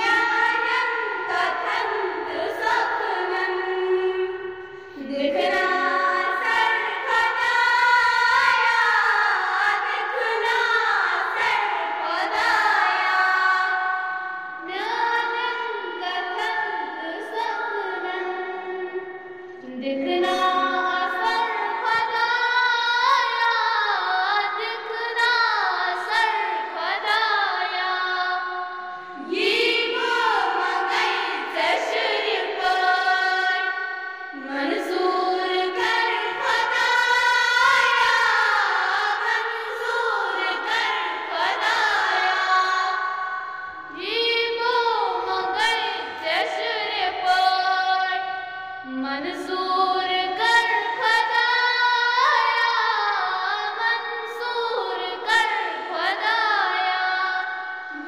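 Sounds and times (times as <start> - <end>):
children singing together: 0.0 - 18.8, 20.0 - 28.5, 29.1 - 58.0.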